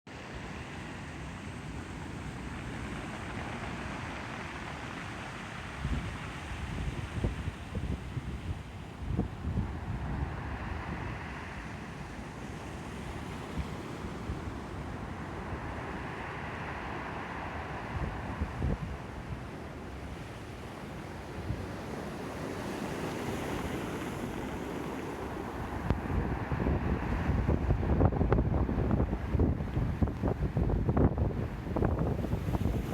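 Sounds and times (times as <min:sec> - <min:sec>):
ocean surf roaring: 0:00.1 - 0:32.9
waves breaking: 0:00.1 - 0:32.9
wind buffeting microphone: 0:01.2 - 0:32.9.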